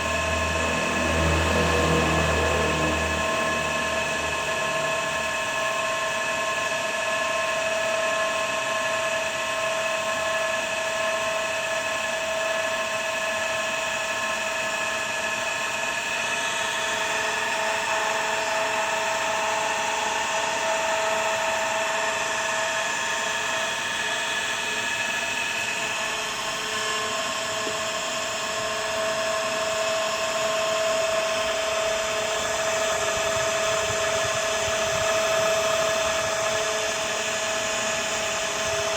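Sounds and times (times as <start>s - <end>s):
pump motor whining: 0.0s - 38.9s.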